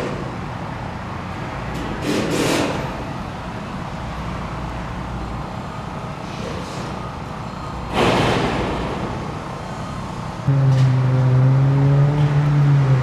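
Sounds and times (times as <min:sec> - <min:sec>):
passing vehicles hum: 0:00.0 - 0:13.0.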